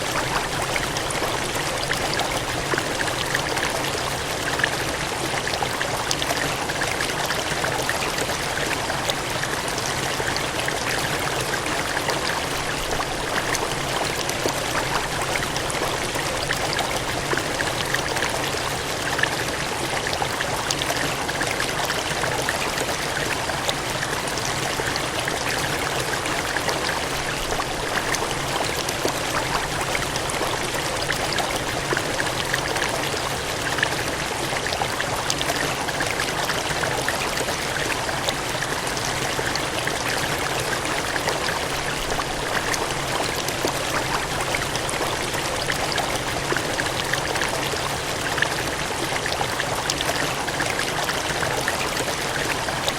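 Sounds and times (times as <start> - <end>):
water gushing and cascading: 0.0 - 52.9.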